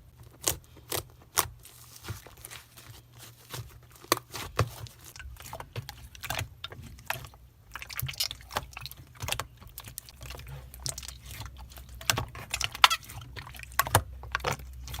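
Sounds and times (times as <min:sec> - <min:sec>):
slime squished by hand: 0:00.2 - 0:15.0.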